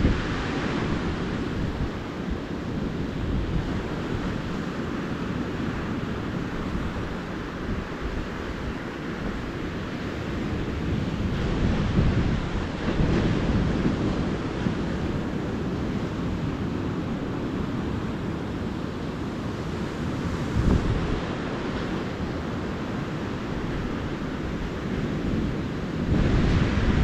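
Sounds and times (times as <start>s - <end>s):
surf washing onto a beach: 0.0s - 27.0s
wind on the microphone: 0.0s - 27.0s.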